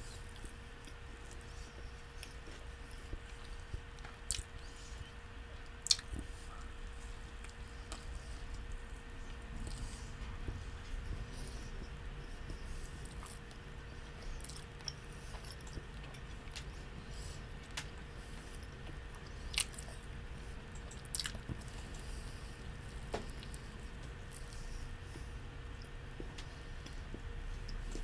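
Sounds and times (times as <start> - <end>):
person chewing sandwich: 0.0 - 28.0
steady low hum: 0.0 - 28.0.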